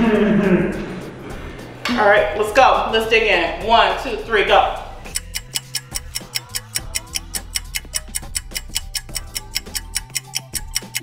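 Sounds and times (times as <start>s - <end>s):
music with ticking beat and bass: 0.0s - 11.0s.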